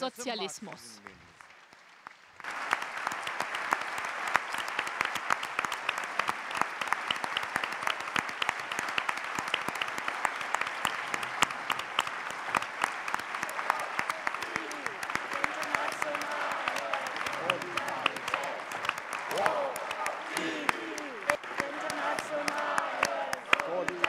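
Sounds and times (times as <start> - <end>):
large audience applauding: 0.0 - 24.0.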